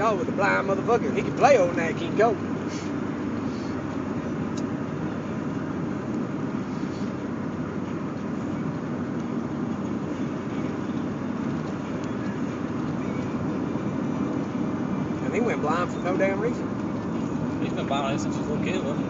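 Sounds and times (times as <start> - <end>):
road noise: 0.0 - 19.0
truck engine: 0.0 - 19.0.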